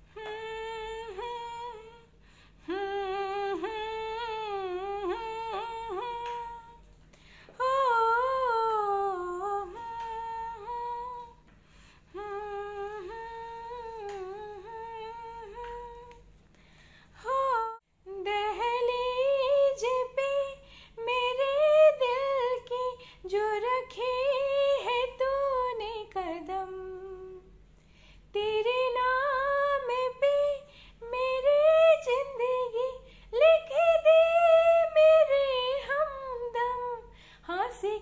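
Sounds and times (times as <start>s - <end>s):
woman singing unaccompanied: 0.0s - 11.5s, 12.1s - 16.3s, 17.2s - 27.5s, 28.3s - 38.0s.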